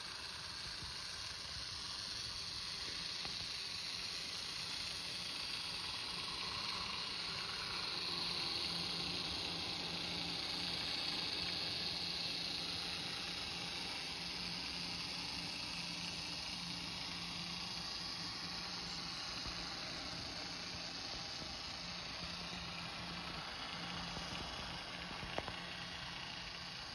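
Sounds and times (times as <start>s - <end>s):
model train running on track: 0.0s - 26.9s.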